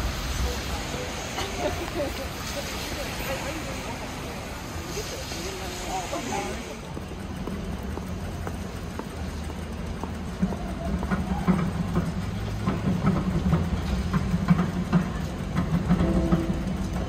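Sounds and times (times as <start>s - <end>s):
electric tram humming: 0.0s - 17.0s
wheels clicking on rails: 0.0s - 17.0s.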